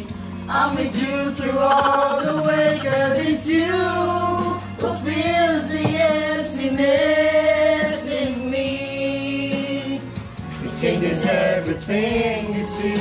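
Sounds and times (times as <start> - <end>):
group singing: 0.5 - 13.0.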